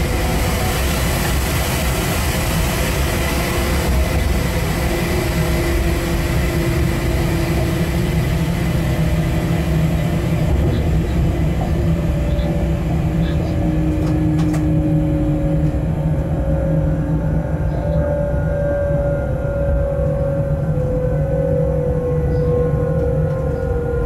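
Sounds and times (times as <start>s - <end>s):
locomotive multi-tone hum: 0.0s - 24.0s
wheels rumbling on track: 0.0s - 24.0s.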